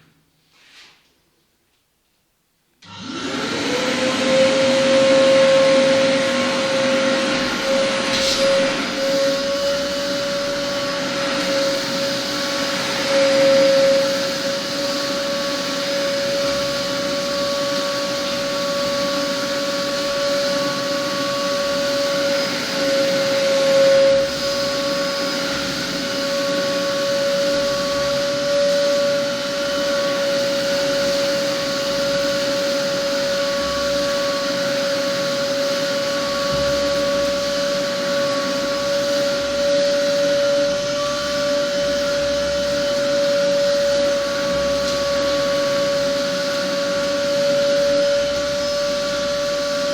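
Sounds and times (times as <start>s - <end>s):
vacuum whining and sucking sand: 2.8s - 49.9s.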